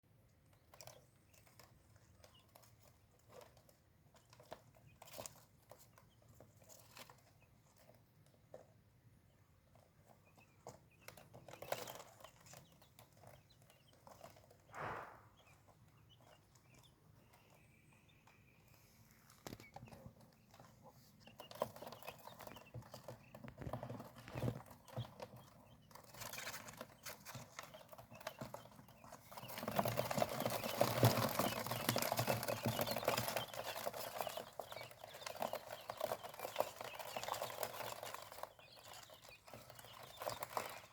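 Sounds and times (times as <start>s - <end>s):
chicks pecking and scratching: 0.0s - 40.9s.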